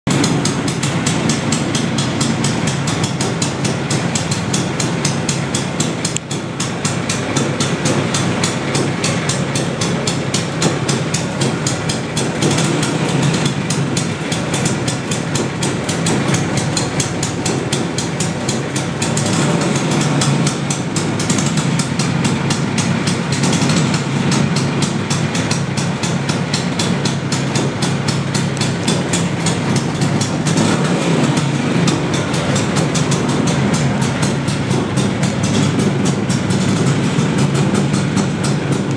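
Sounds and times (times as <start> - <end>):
scooter engine running: 0.1 - 38.9.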